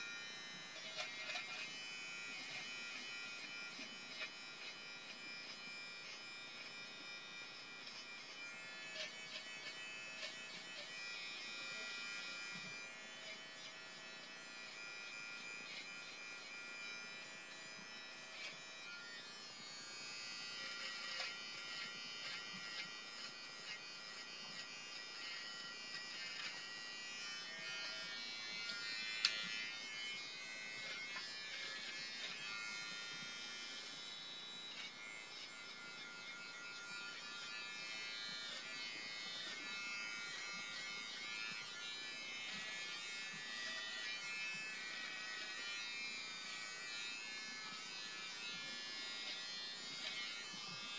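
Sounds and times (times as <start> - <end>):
electric beard trimmer buzzing: 0.0 - 50.9.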